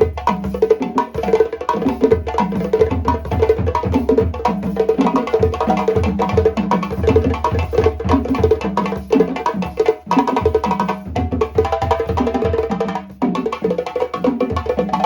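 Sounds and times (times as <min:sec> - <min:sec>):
balafon played fast: 0:00.0 - 0:15.0.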